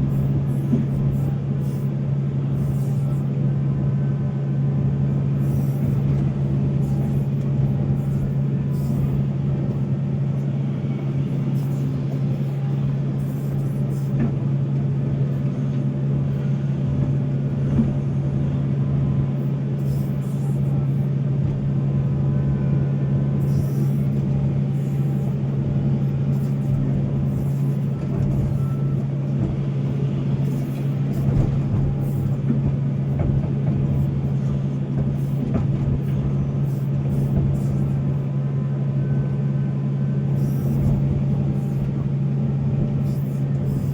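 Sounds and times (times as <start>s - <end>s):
excavator diesel engine drone: 0.0s - 43.9s.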